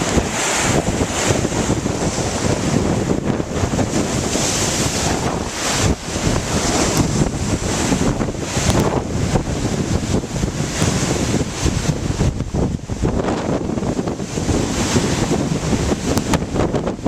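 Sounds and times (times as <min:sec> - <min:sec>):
waves breaking on shore: 0:00.0 - 0:17.0
wind gusting against microphone: 0:00.0 - 0:17.0.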